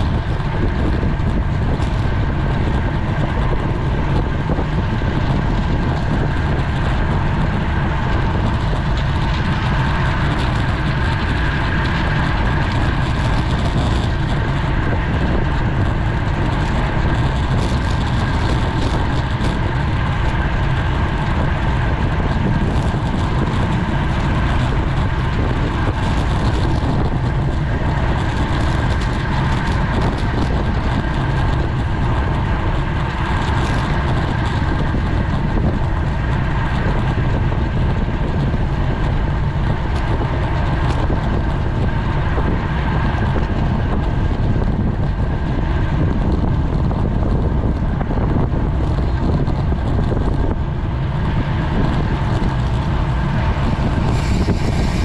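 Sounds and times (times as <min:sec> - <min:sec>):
bicycle road noise: 0:00.0 - 0:55.0
wind rush: 0:00.0 - 0:55.0.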